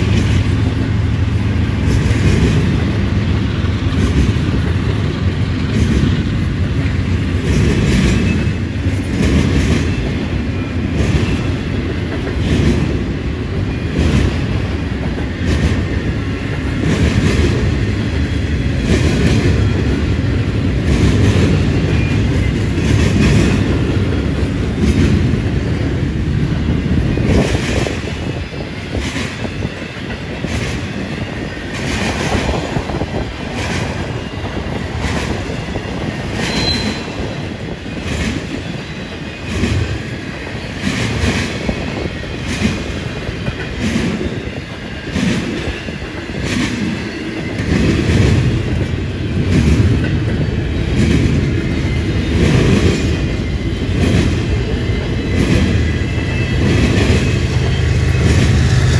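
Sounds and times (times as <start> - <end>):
railroad cars rumbling: 0.0 - 58.9.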